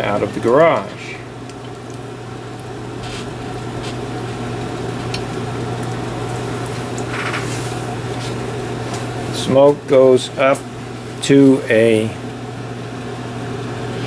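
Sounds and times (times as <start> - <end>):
exhaust fan humming: 0.0 - 14.0.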